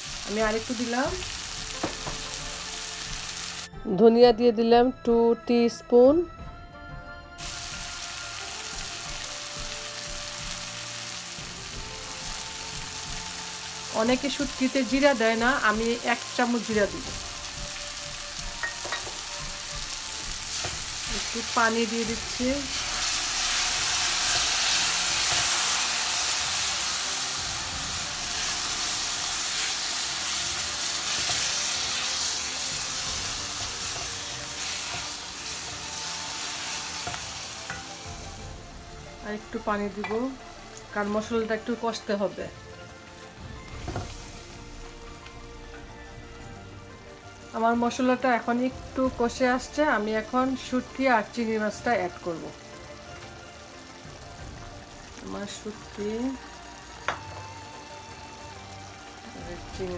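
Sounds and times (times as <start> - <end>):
onions sizzling in oil: 0.0 - 3.8, 7.4 - 59.9.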